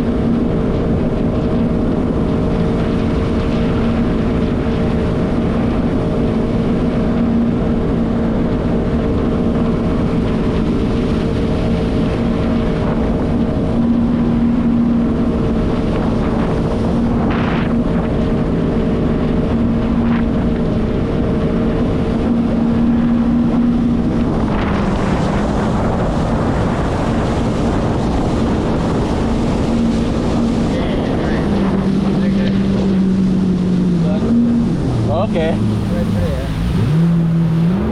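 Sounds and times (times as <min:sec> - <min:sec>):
jet ski engine running: 0:00.0 - 0:37.9
wind on microphone: 0:00.0 - 0:37.9.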